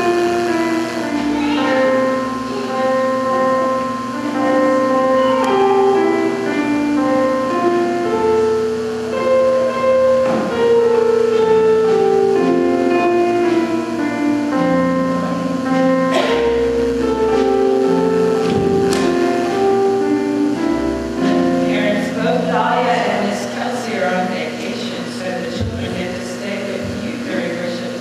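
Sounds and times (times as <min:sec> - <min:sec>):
keyboard playing slow chords: 0:00.0 - 0:28.0.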